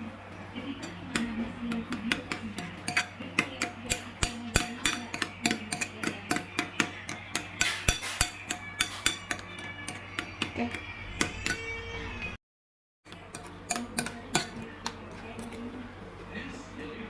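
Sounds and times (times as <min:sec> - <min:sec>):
kitchen utensils clinking: 0:00.6 - 0:12.4, 0:13.1 - 0:15.7.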